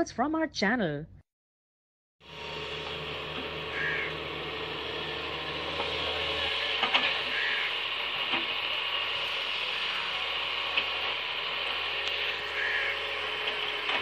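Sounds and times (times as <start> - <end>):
heavy machine running: 2.2 - 14.0.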